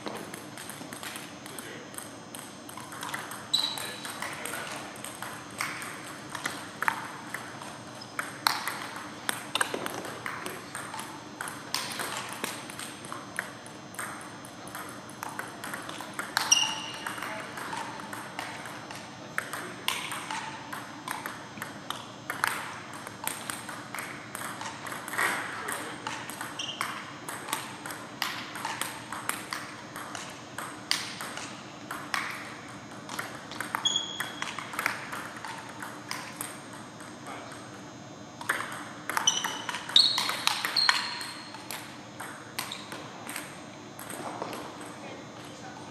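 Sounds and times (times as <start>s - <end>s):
ball bouncing on table: 0.0s - 37.1s, 38.4s - 44.9s
table tennis ball clicking off bats: 0.0s - 37.7s, 38.4s - 45.0s.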